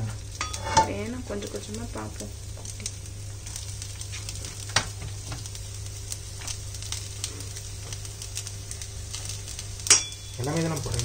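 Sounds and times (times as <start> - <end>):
spices sizzling in a wok: 0.0 - 11.0.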